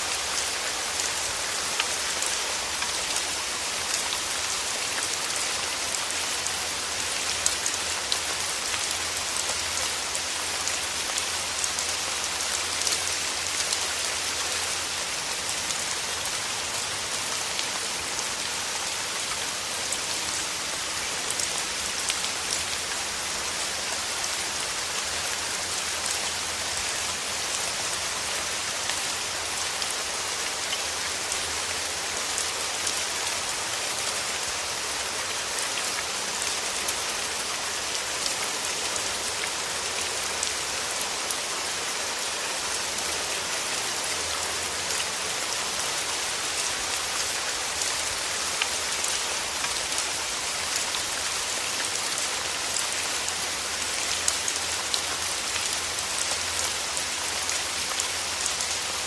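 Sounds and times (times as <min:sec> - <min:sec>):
steady rain with drop ticks: 0:00.0 - 0:59.0.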